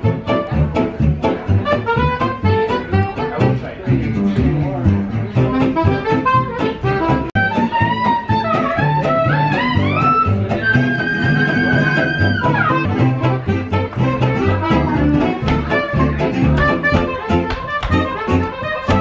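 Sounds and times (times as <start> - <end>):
acoustic guitars strumming: 0.0 - 19.0
double bass plucking: 0.0 - 19.0
lead instrument melody: 0.0 - 19.0.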